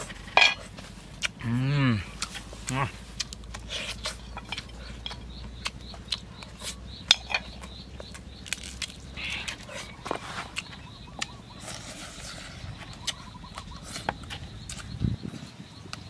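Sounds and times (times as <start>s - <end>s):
person chewing meat: 0.0s - 15.1s.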